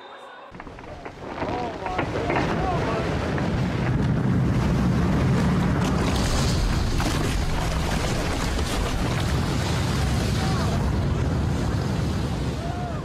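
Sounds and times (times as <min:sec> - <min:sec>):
rushing water: 0:00.6 - 0:13.0
wind buffeting microphone: 0:00.6 - 0:13.0
motorboat engine roaring: 0:02.1 - 0:12.6.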